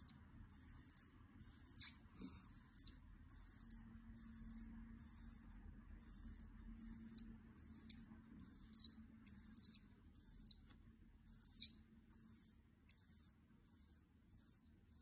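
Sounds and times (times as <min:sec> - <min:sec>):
marker scratching on paper: 0:00.0 - 0:15.0.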